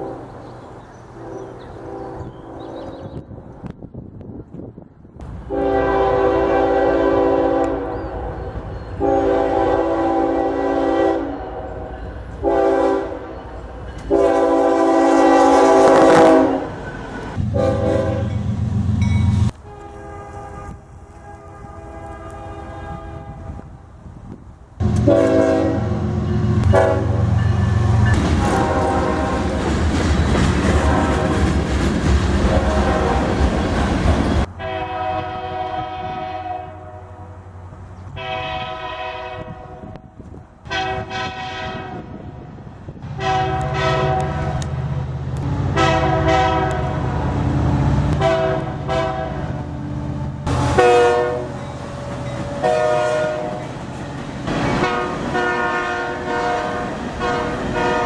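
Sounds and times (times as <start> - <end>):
locomotive air horn blasts: 0.0 - 0.4, 1.1 - 2.8, 5.2 - 18.5, 19.5 - 23.9, 24.8 - 29.7, 30.3 - 31.6, 32.4 - 37.4, 38.1 - 42.4, 43.0 - 58.0
train rumbling past: 0.0 - 58.0.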